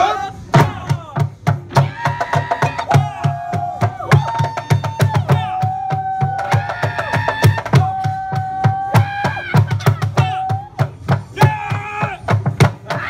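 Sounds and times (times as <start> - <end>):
sticks drumming on jugs and pots: 0.4 - 13.0.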